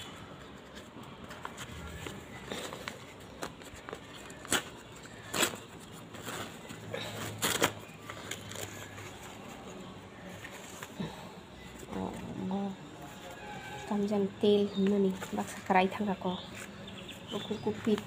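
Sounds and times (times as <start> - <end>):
newspaper rustling and crinkling: 0.0 - 12.3, 13.0 - 18.0.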